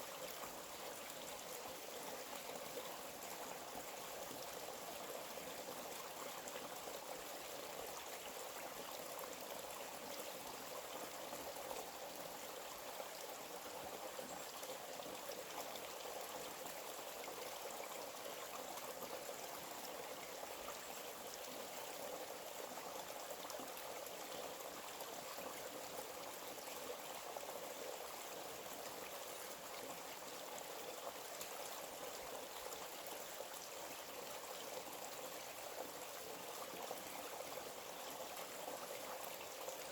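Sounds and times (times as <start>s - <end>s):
small stream flowing: 0.0s - 39.9s.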